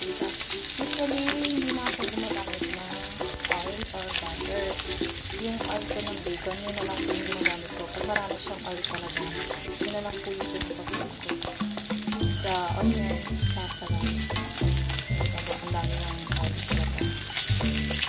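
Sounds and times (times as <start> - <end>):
background music: 0.0 - 18.0
bacon sizzling in oil: 0.0 - 18.0.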